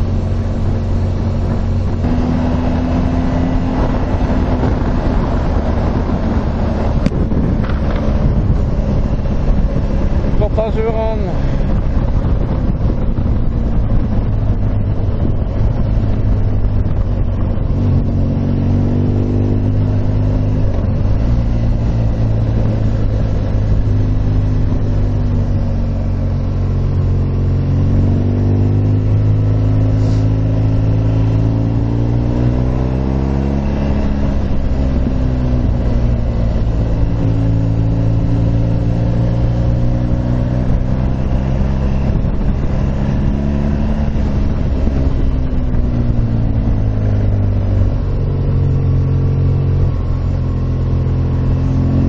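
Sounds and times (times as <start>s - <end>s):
motorcycle engine accelerating: 0.0s - 52.0s
wind and road noise: 0.0s - 52.0s.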